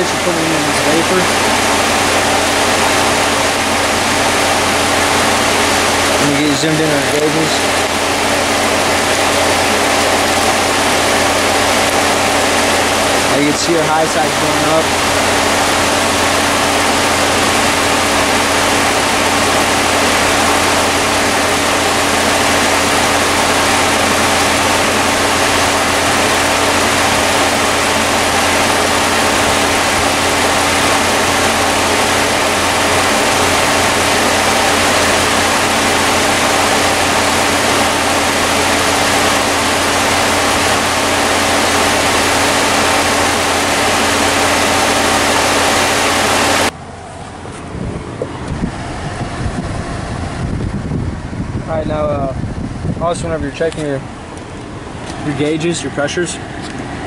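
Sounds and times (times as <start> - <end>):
air conditioning hum: 0.0 - 57.0
car engine idling: 0.0 - 57.0.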